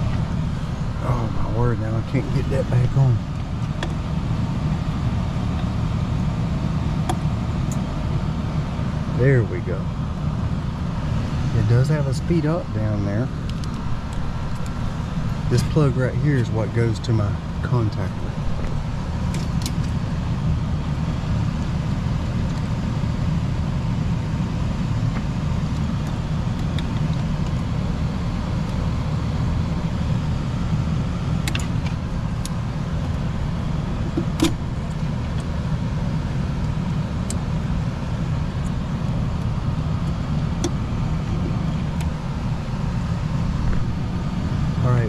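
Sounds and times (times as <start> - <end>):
mechanical hum of equipment: 0.0 - 45.0.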